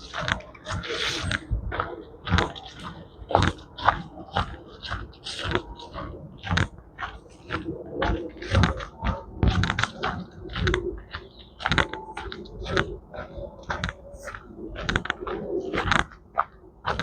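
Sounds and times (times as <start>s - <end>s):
footsteps crunching on trail: 0.0s - 17.0s.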